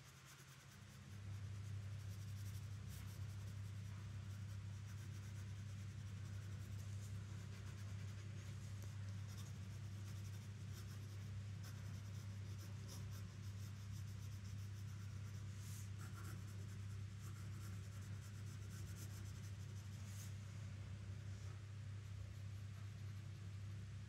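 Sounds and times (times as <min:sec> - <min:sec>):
steady low hum: 0:00.0 - 0:24.0
pencil scratching on paper: 0:00.1 - 0:20.3.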